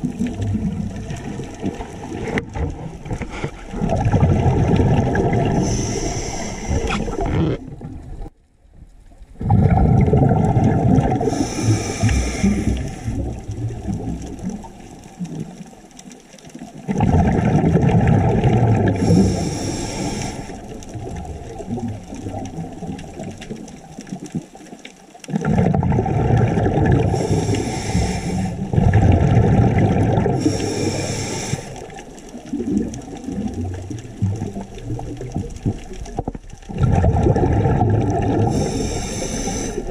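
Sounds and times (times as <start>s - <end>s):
underwater breath bubbles: 0.0s - 8.2s, 9.4s - 15.7s, 16.6s - 24.5s, 25.2s - 39.9s.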